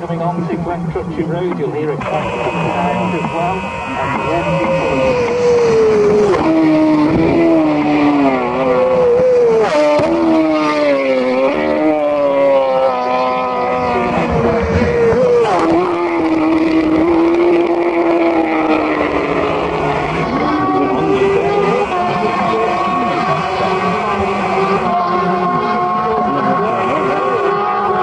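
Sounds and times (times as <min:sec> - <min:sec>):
motorcycle engine shifting gears: 0:03.2 - 0:28.0.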